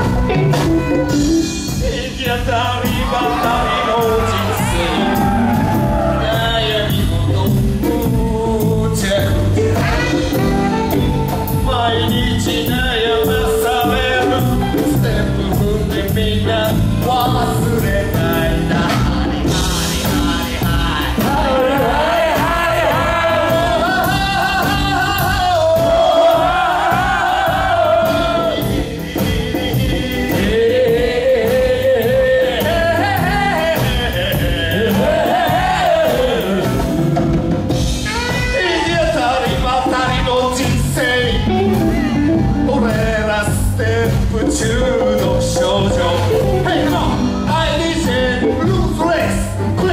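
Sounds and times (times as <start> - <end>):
electric guitar: 0.0 - 31.2, 36.2 - 48.7
drums: 0.0 - 49.9
men singing: 0.0 - 49.9.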